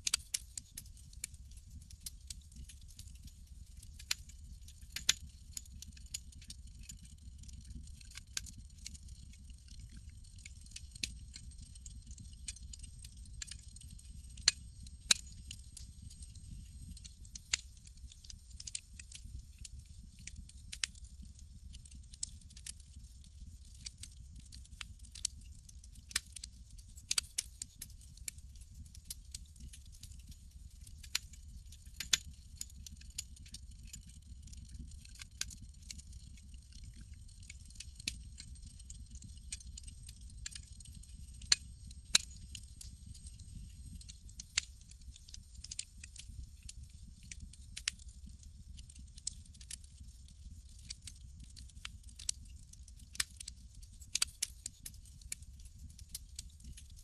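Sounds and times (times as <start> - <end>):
campfire crackling and popping: 0.0 - 31.3, 31.9 - 55.2, 55.9 - 56.8.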